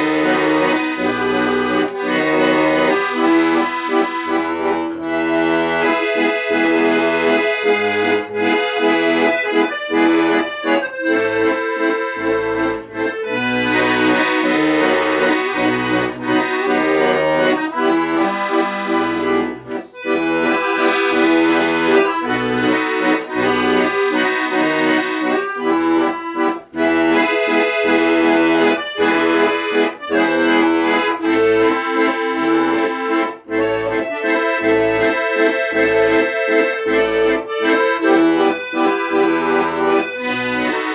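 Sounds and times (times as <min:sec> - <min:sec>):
accordion melody: 0:00.0 - 0:40.9
rhythmic bass accompaniment: 0:00.0 - 0:40.9.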